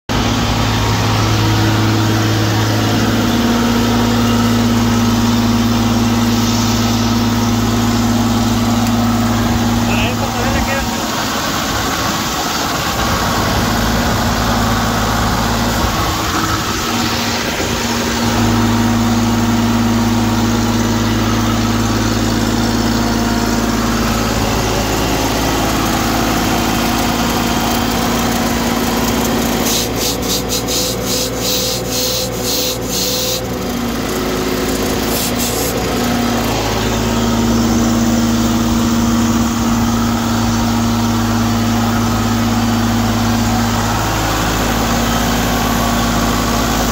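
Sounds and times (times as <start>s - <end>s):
engine humming: 0.0s - 46.9s.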